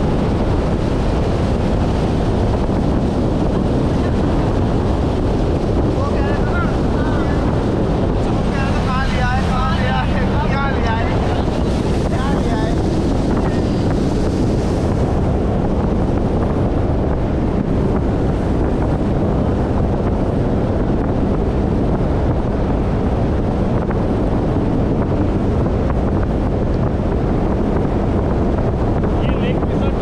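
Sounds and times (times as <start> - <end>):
outboard motor hum: 0.0 - 30.0
water rushing off hull: 0.0 - 30.0
wind buffeting microphone: 0.0 - 30.0.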